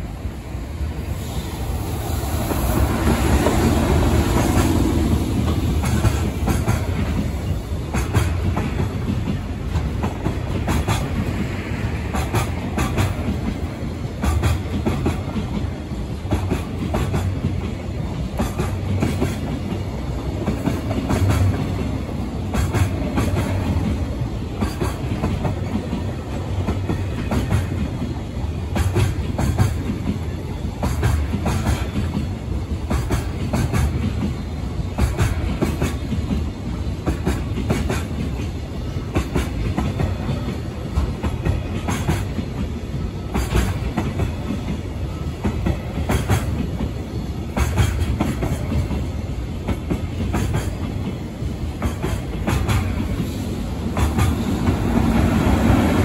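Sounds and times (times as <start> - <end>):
train wheels rumbling on rail: 0.0 - 56.0
wheels clacking over rail joints: 2.8 - 56.0.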